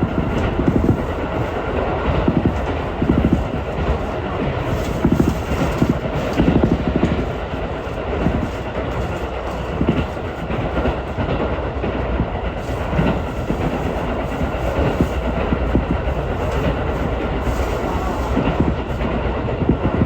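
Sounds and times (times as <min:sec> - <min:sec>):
train rumbling: 0:00.0 - 0:20.0
wheels clicking over rails: 0:00.0 - 0:20.0.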